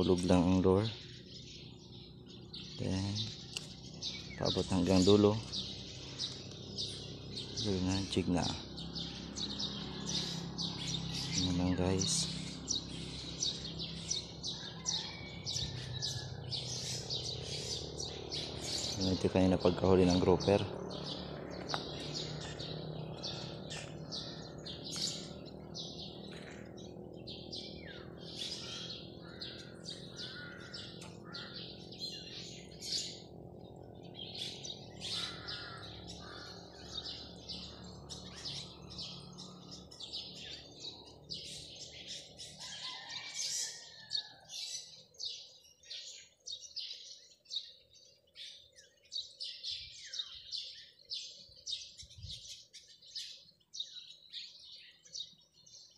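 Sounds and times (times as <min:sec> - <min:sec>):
small birds chirping and twittering: 0:00.0 - 0:55.9.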